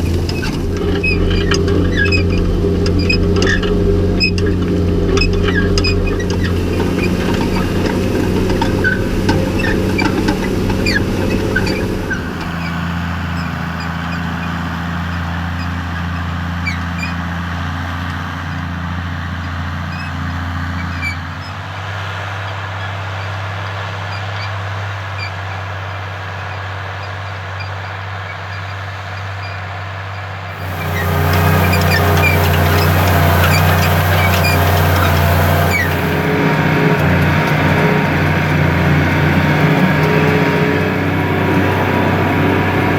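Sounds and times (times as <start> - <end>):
tractor engine running under load: 0.0 - 42.9.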